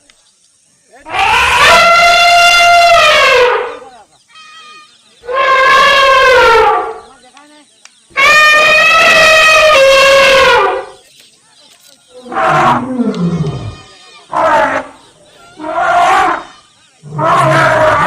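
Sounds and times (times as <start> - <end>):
elephants trumpeting: 1.0 - 7.1, 8.2 - 11.0, 12.2 - 18.0.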